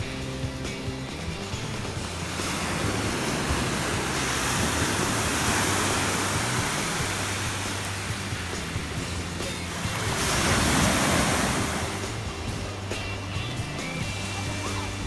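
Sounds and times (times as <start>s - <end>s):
ocean surf washing up: 0.0s - 15.0s.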